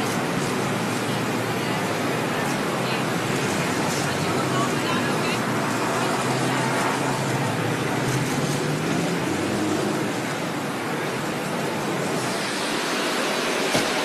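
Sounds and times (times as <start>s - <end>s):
traffic rushing: 0.0s - 14.0s.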